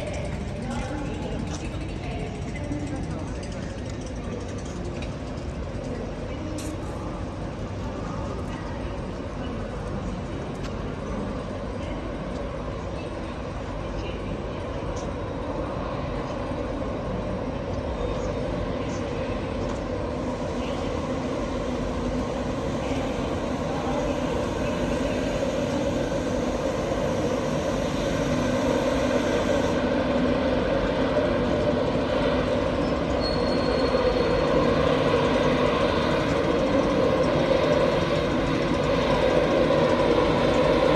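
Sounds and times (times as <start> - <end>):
train mechanical drone: 0.0 - 40.9.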